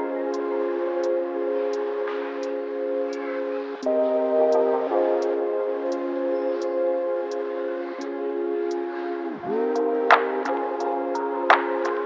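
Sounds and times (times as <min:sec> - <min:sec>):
sustained chords background music: 0:00.0 - 0:12.0.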